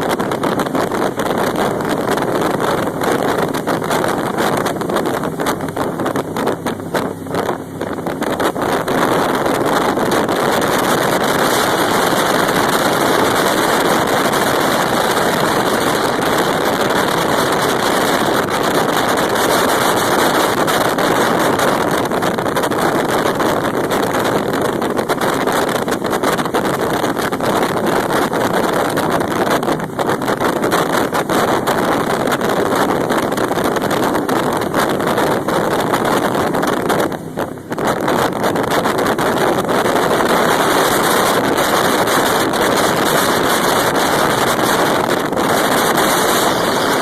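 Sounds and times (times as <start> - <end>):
jet boat engine and water rush: 0.0 - 47.0
wind buffeting microphone: 0.0 - 47.0.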